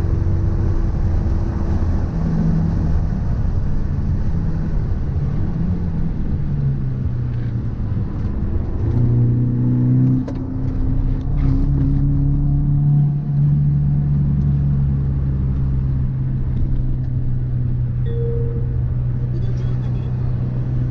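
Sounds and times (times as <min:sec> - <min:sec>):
car engine and drivetrain drone: 0:00.0 - 0:20.9.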